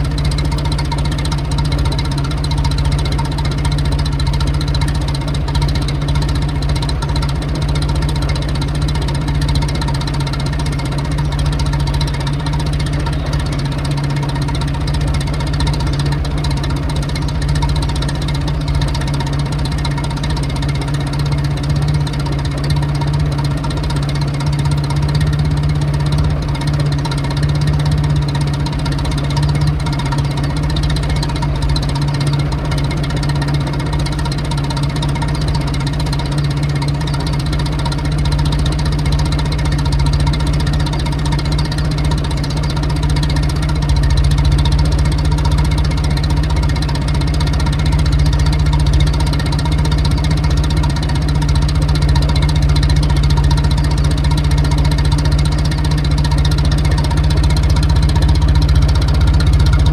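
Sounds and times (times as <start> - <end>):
car engine ticking over: 0.0 - 59.9.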